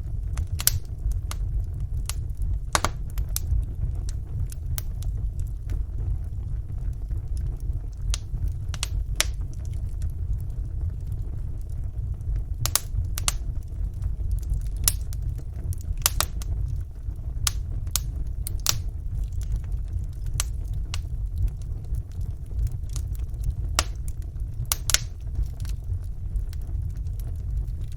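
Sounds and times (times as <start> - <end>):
fire crackling and popping: 0.0 - 27.9
low rumble: 0.0 - 27.9.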